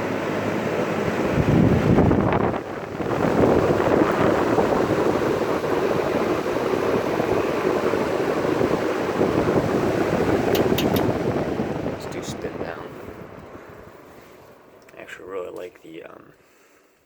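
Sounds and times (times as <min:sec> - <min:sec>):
box fan roaring: 0:00.0 - 0:17.0.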